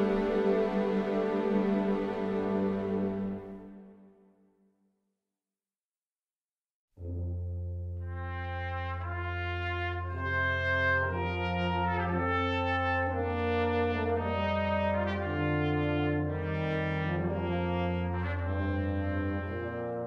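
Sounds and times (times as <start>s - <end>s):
brass ensemble playing slow chords: 0.0s - 3.8s, 7.0s - 20.0s.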